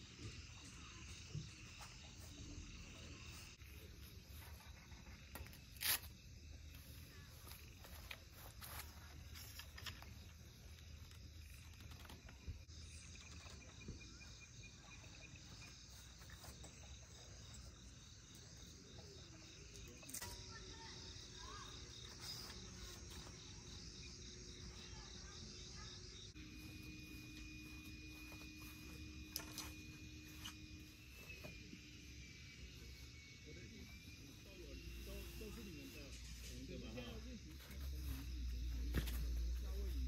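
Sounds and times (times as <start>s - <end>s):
night insects chirping: 0.0s - 40.0s.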